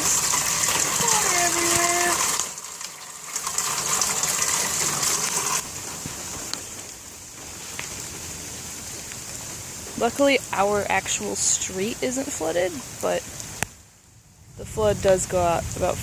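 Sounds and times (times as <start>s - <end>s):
runoff water gushing: 0.0s - 16.0s.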